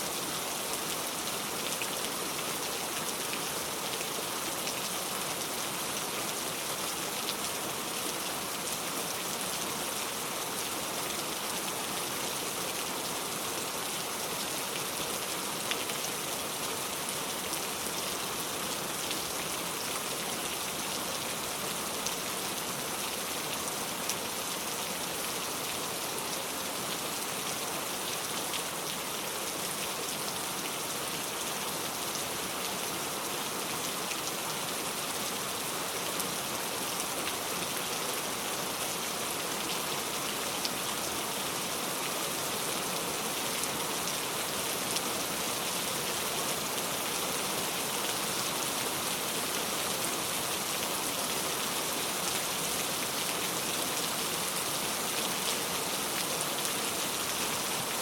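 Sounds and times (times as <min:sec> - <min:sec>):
heavy rain on a road: 0:00.1 - 0:58.0.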